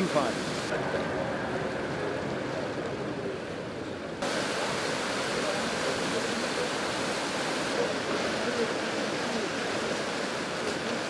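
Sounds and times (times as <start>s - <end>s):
water rushing and churning: 0.0s - 11.0s.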